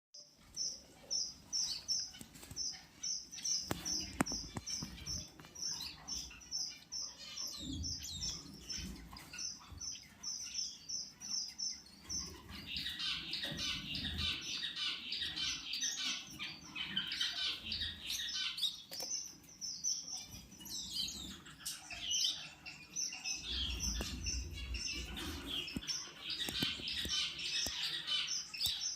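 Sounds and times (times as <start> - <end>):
finches chirping and twittering: 0.2 - 28.9.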